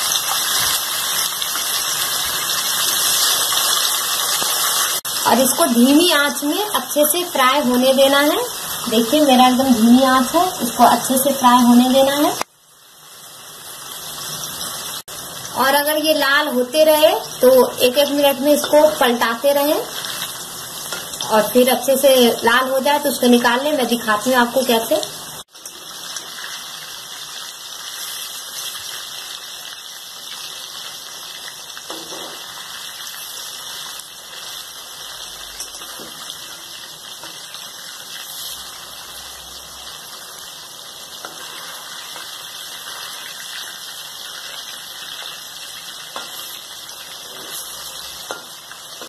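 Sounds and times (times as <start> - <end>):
fish sizzling in hot oil: 0.0 - 49.0.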